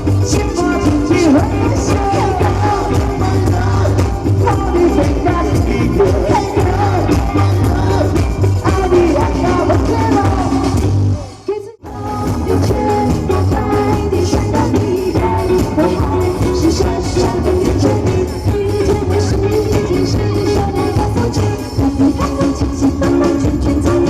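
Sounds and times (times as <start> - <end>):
live band playing pop music: 0.0 - 24.0.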